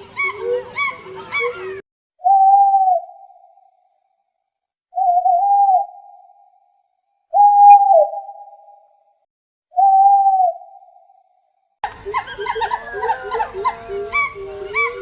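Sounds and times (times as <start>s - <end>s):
bird hooting: 0.0s - 3.8s, 5.0s - 6.7s, 7.3s - 9.0s, 9.8s - 15.0s.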